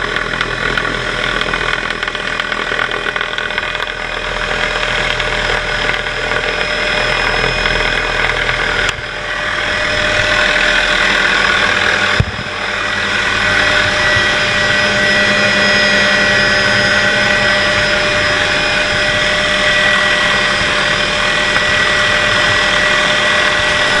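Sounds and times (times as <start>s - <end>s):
helicopter running: 0.0s - 24.0s.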